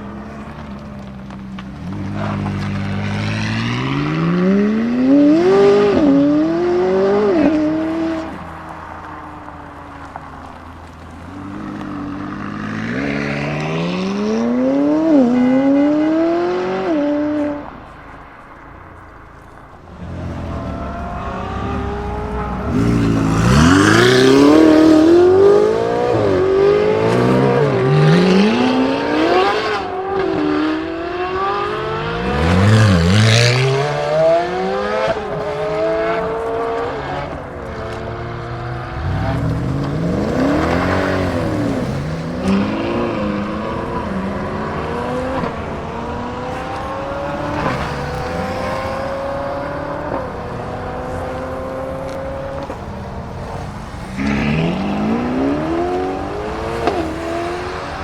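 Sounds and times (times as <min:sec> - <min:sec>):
supercar engines revving: 0:00.0 - 0:58.0.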